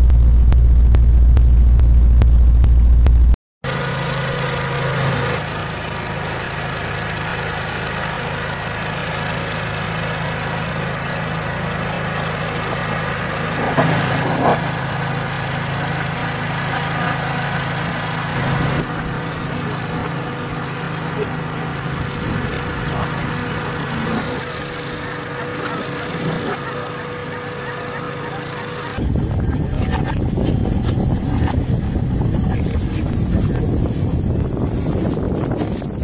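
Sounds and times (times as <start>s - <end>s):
boat motor running: 0.0s - 36.0s.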